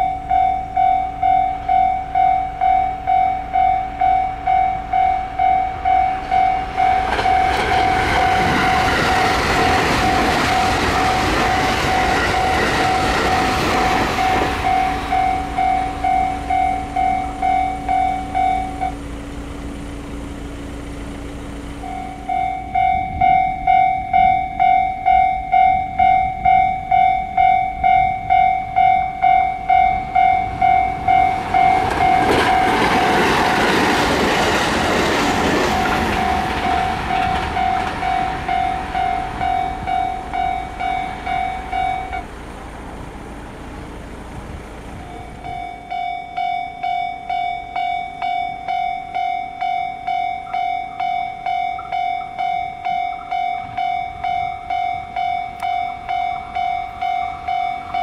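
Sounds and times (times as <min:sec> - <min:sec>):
level crossing warning bell: 0:00.0 - 0:43.0, 0:44.8 - 0:58.0
train passing: 0:00.0 - 0:58.0.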